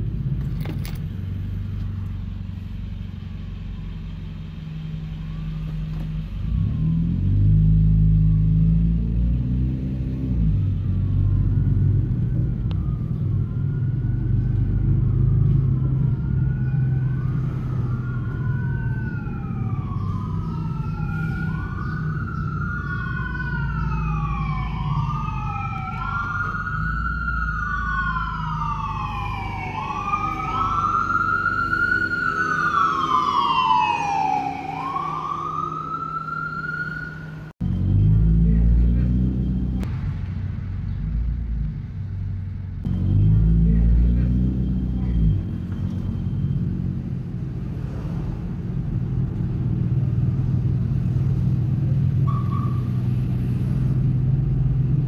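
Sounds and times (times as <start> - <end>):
car engine and road noise: 0.0 - 55.0
emergency sirens wailing: 3.5 - 39.9, 42.8 - 55.0.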